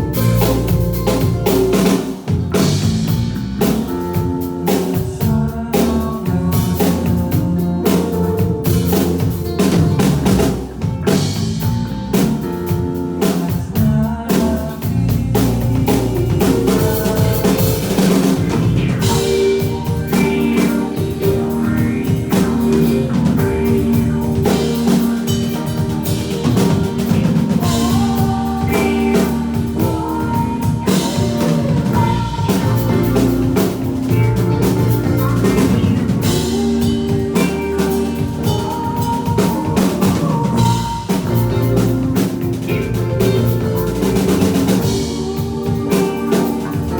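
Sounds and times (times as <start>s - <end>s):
drum kit beat: 0.0s - 46.9s
rock band playing live: 0.0s - 46.9s.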